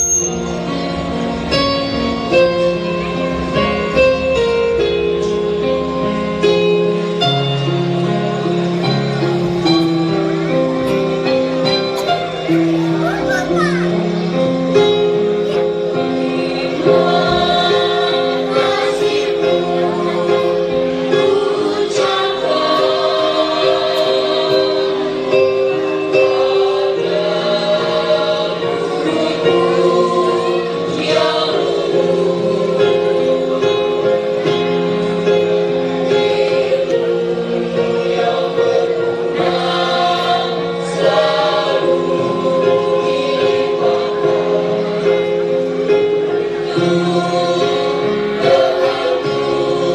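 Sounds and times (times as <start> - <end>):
music with voices singing: 0.1 - 49.9.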